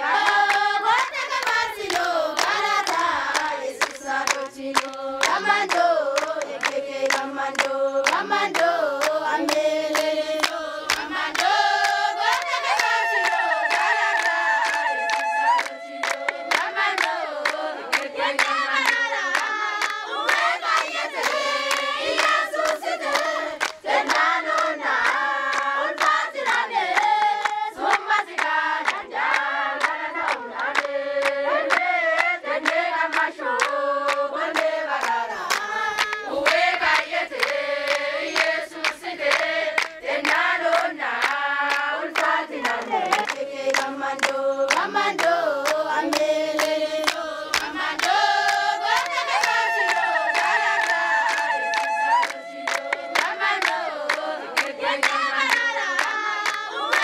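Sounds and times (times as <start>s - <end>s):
group of voices singing: 0.0s - 57.0s
hand-clapping: 0.0s - 57.0s.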